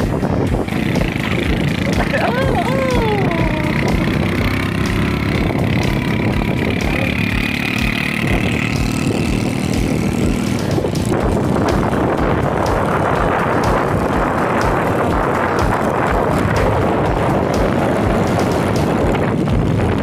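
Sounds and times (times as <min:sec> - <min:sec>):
motorbike engines running: 0:00.0 - 0:20.0
road and wind rush: 0:00.0 - 0:20.0.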